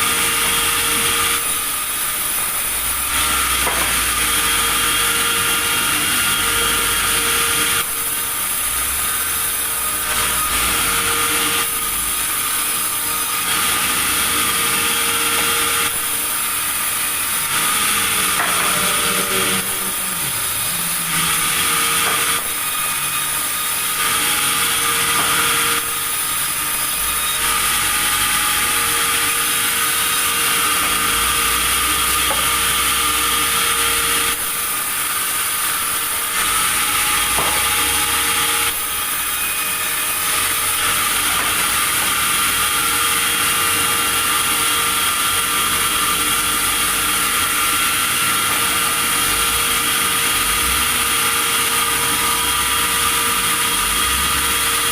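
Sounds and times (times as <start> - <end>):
sawmill saw cutting timber: 0.0 - 54.9.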